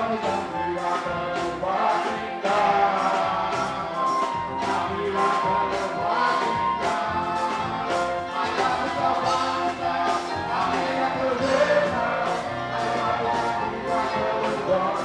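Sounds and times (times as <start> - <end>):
gospel group singing: 0.0 - 15.0
steady beat: 0.0 - 15.0.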